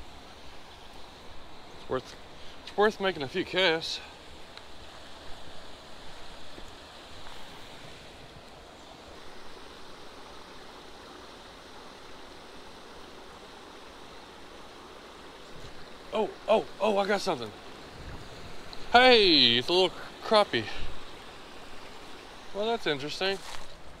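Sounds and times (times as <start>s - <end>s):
creek water running: 0.0s - 24.0s.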